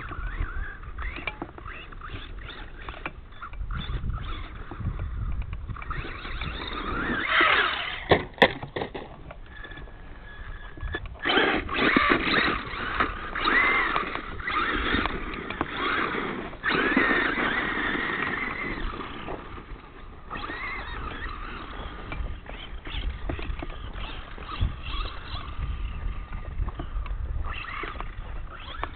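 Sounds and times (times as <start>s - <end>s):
toy truck motor whine: 0.0s - 8.2s, 9.4s - 28.9s
tyres on grit: 0.0s - 28.9s.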